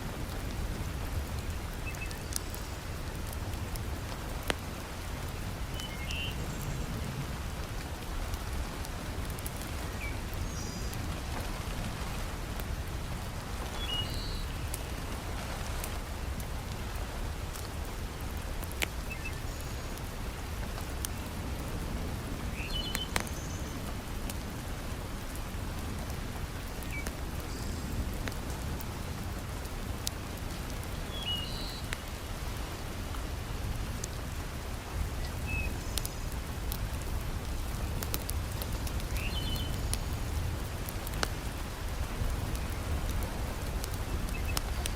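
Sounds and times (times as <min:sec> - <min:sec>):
heavy rain falling: 0:00.0 - 0:44.9
wood fire crackling: 0:00.0 - 0:44.9.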